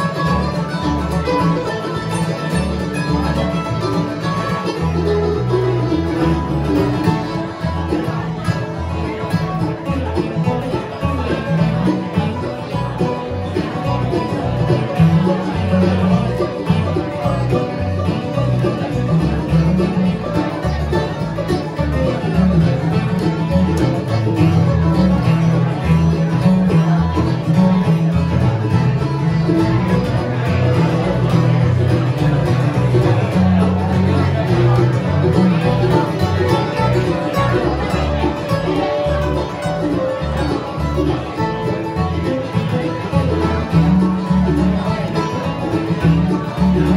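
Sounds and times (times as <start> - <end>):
bluegrass band playing: 0.0 - 46.9.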